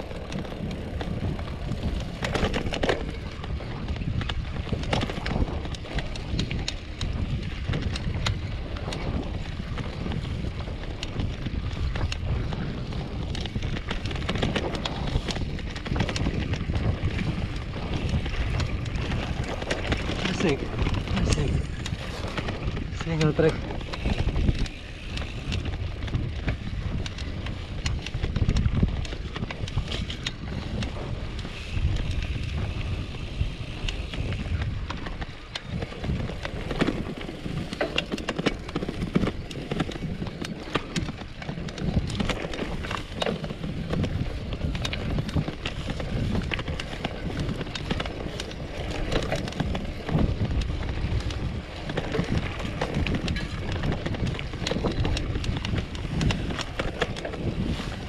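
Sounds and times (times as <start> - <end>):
bike rattling and knocking: 0.0 - 58.0
bike tyre rumble: 0.0 - 58.0
wind buffeting microphone: 0.0 - 58.0.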